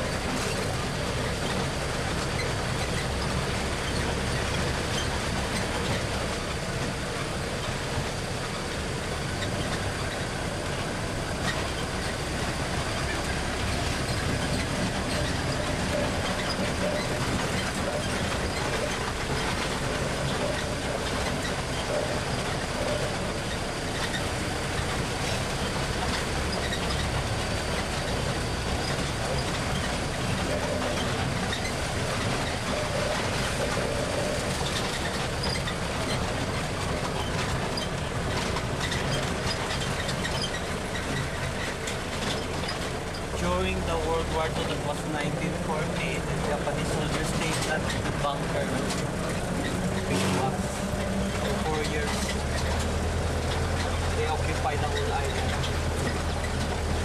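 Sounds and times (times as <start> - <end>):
tram engine and road noise: 0.0 - 57.0.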